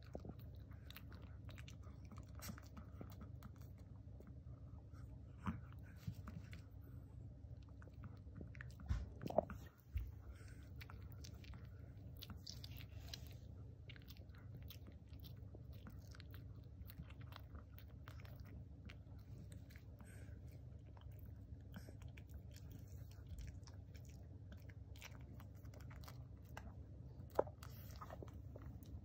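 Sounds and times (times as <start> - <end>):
dog chewing a treat: 0.0 - 29.0.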